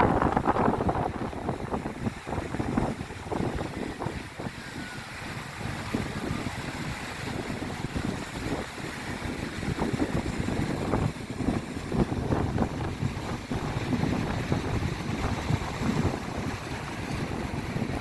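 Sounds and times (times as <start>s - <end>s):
surf: 0.0s - 18.0s
wind buffeting microphone: 0.0s - 18.0s.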